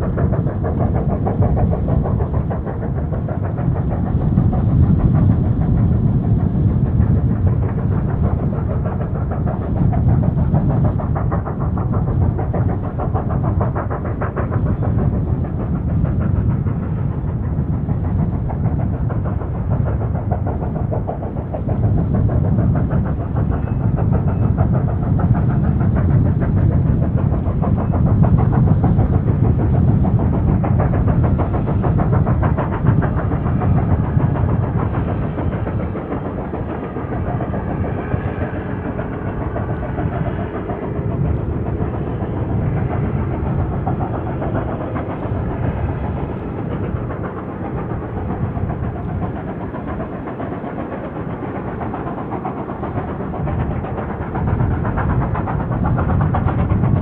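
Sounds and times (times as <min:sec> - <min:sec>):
distant steam locomotive rumble: 0:00.0 - 0:57.0.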